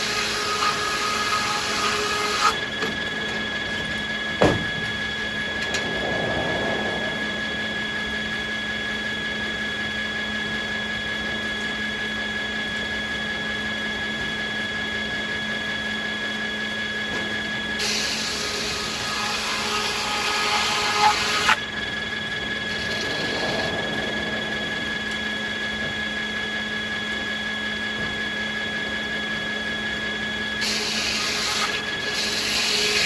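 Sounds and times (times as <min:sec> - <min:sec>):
sawmill machinery whining: 0:00.0 - 0:33.0.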